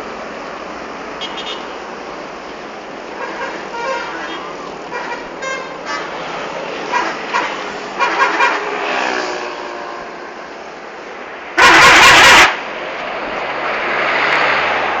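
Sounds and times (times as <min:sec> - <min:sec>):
buses passing: 0:00.0 - 0:15.0.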